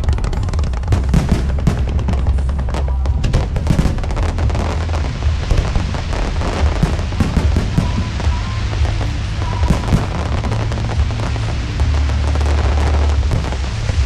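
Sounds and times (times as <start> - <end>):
fireworks crackling bangs: 0.0 - 14.0
low rumble of booms: 0.0 - 14.0
music playing: 0.0 - 14.0.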